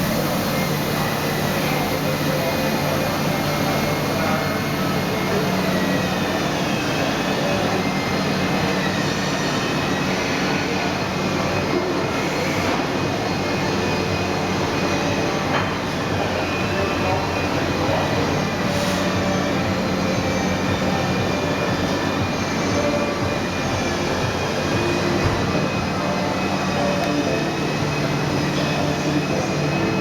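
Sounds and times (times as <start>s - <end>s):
milling machine humming: 0.0s - 30.0s.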